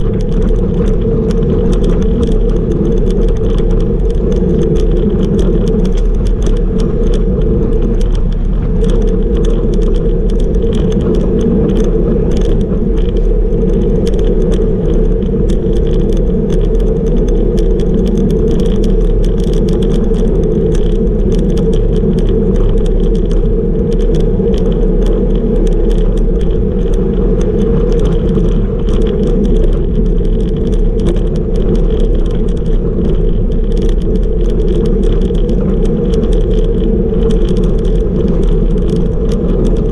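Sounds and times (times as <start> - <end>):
bicycle tyre noise on asphalt: 0.0 - 39.9
light rattle of small clicks: 0.0 - 39.9
wind rush on microphone: 0.0 - 39.9.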